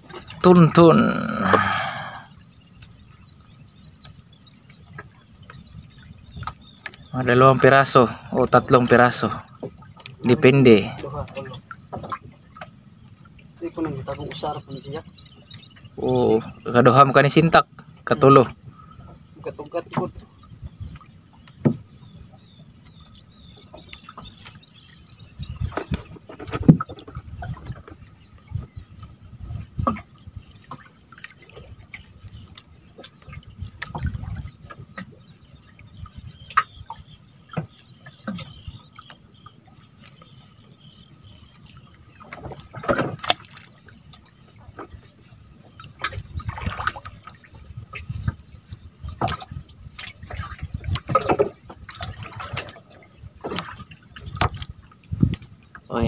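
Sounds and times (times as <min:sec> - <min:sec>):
water sloshing and dripping: 0:00.0 - 0:56.0
water splashes: 0:00.0 - 0:56.0.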